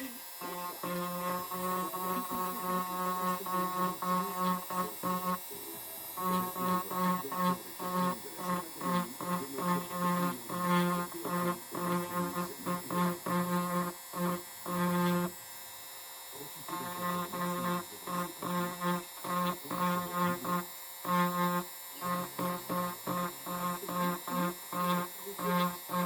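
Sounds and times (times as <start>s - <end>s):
electric engraver buzzing: 0.0s - 26.0s.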